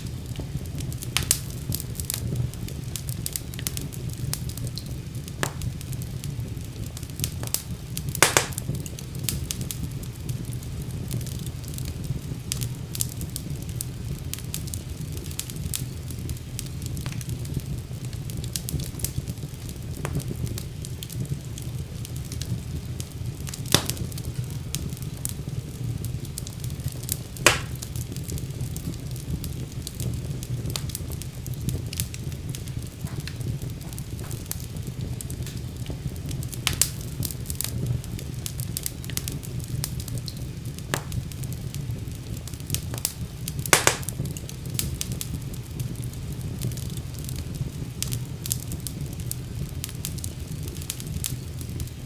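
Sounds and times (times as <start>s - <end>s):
fire crackles and pops: 0.0s - 52.0s
fire flames rumbling: 0.0s - 52.0s.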